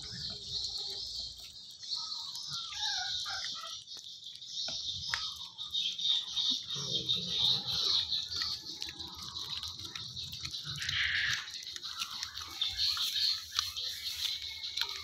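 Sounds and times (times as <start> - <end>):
kitten chewing raw meat: 0.0 - 15.0.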